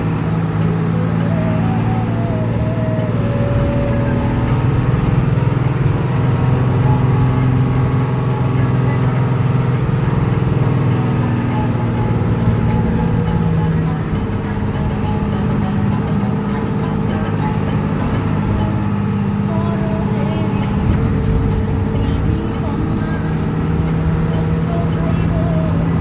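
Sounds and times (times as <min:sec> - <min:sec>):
bus diesel engine drone: 0:00.0 - 0:26.0.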